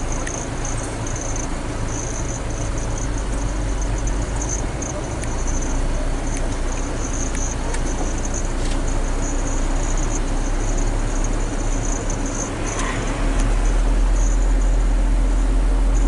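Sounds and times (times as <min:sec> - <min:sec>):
high-pitched chirping: 0:00.0 - 0:14.8
truck engine and road rumble: 0:00.0 - 0:16.0.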